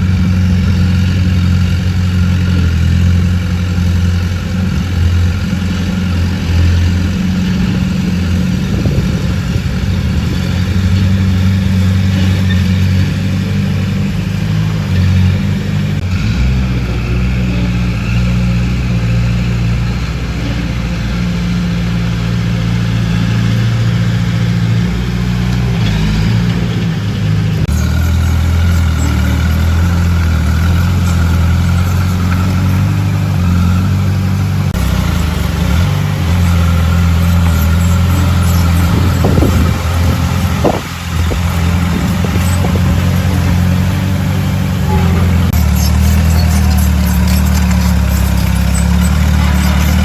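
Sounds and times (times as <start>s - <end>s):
heavy machinery diesel engine: 0.0s - 50.0s.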